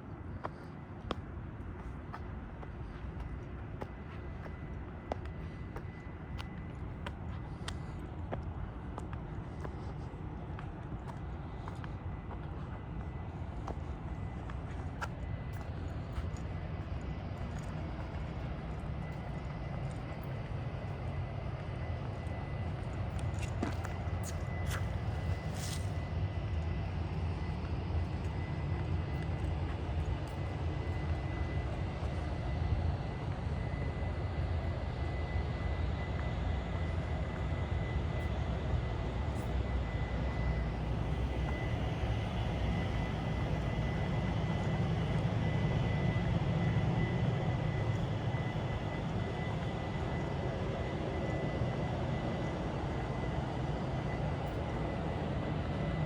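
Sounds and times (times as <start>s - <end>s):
faint thin whine: 0.0s - 56.0s.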